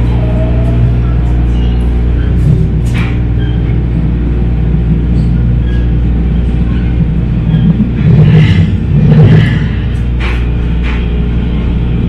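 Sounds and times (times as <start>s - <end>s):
low motor hum: 0.0s - 12.0s
train wheels rumbling on rails: 0.0s - 12.0s.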